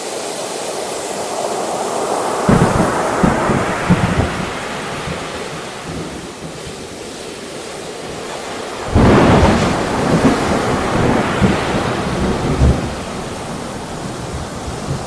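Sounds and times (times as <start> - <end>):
waves crashing: 0.0 - 15.0
wind: 0.0 - 15.0.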